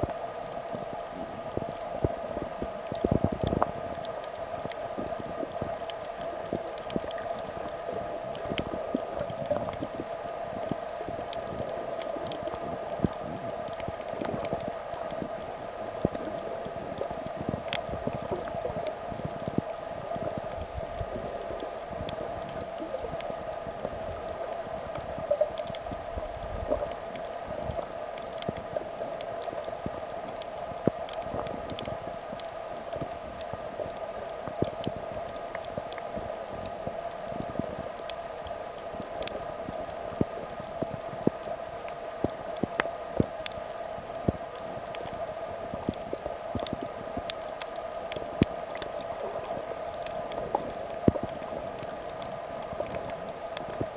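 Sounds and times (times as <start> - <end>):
crackling clicks: 0.0 - 53.9
steady underwater hum: 0.0 - 53.9.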